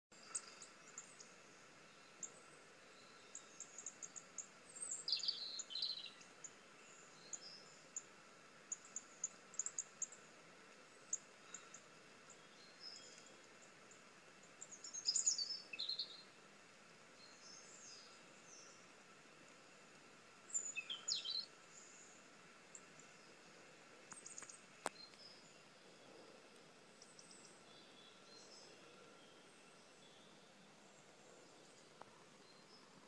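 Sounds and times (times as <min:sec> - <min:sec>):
faint steady hiss: 0:00.1 - 0:33.0
recorded songbirds chirping: 0:00.1 - 0:33.0.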